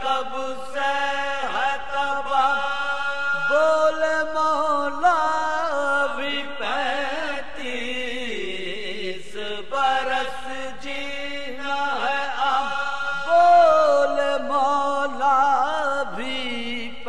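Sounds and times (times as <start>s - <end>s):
man chanting unaccompanied: 0.0s - 17.0s.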